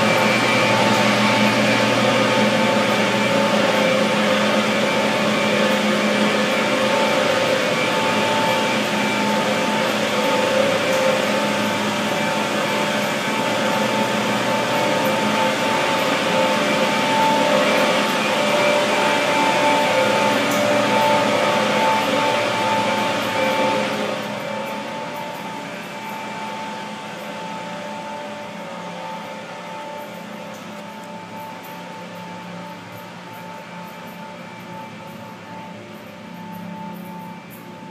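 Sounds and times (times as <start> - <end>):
chiller machines droning: 0.0 - 37.9.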